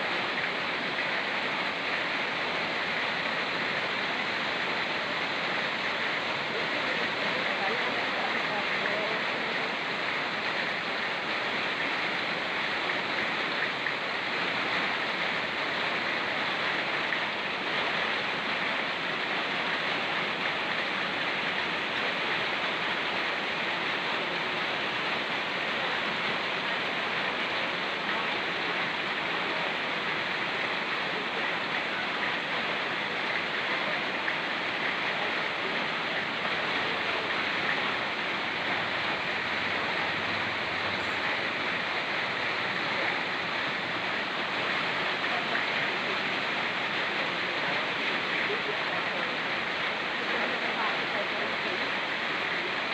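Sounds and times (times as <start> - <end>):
fast-flowing stream: 0.0 - 52.9
rain falling: 0.0 - 52.9.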